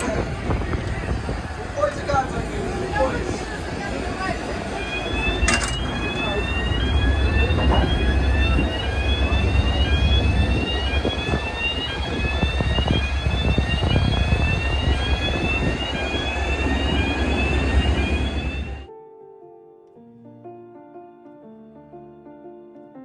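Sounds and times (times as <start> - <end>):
jet low rumble: 0.0 - 18.9.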